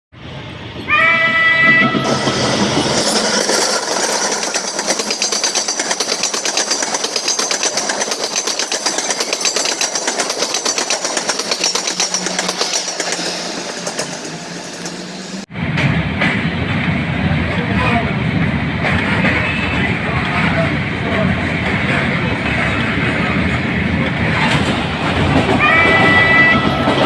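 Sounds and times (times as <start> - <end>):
train wheels clattering over rails: 1.3 - 17.0, 17.8 - 27.0.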